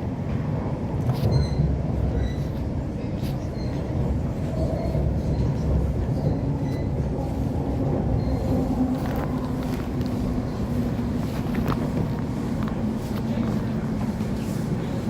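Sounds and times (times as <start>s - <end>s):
train rumbling in motion: 0.0s - 15.0s.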